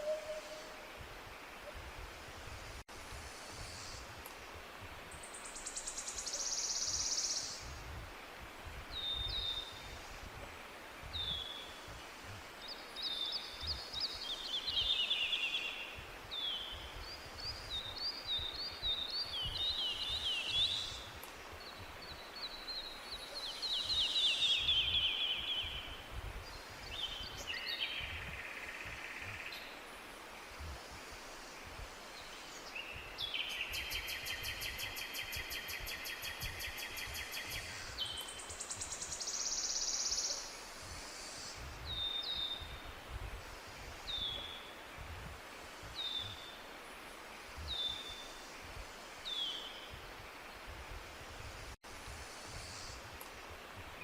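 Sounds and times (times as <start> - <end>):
steady background hiss: 0.0 - 54.0
songbirds singing: 5.1 - 51.1.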